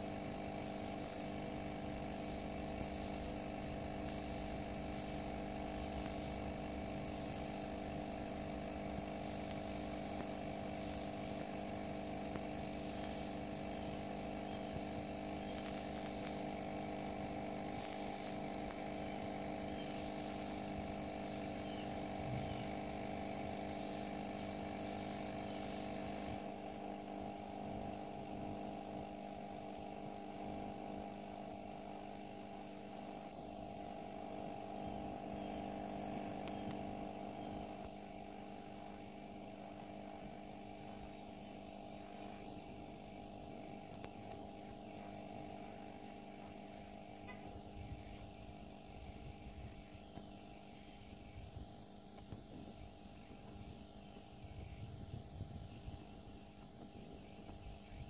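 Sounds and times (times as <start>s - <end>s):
low mechanical hum: 0.0s - 58.0s
high-pitched insect chirping: 0.3s - 58.0s.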